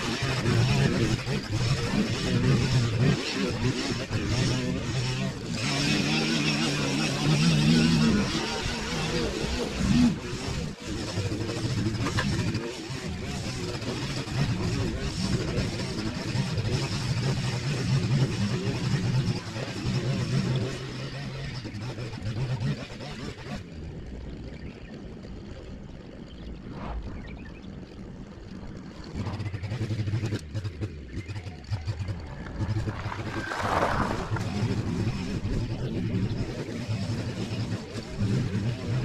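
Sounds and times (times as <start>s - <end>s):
small petrol engine running: 0.0s - 39.0s.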